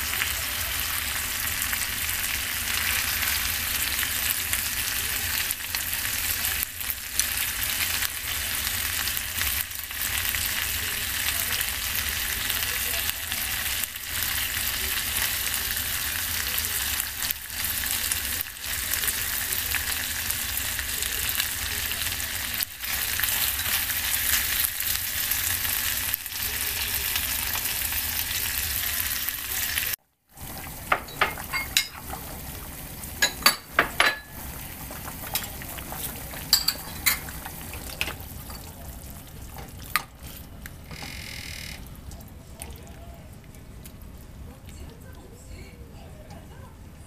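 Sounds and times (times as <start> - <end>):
food sizzling in frying pan: 0.0 - 42.1.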